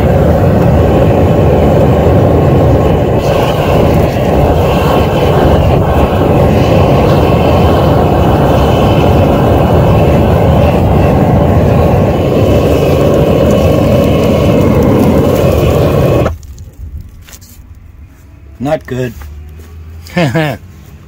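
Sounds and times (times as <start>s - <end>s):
wind buffeting microphone: 0.0s - 17.3s
gas burners rushing: 0.0s - 21.0s.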